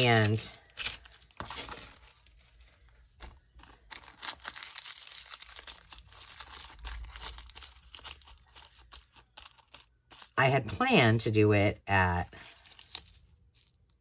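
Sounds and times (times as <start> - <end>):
paper rustling and crinkling: 0.0 - 10.4, 12.3 - 14.0.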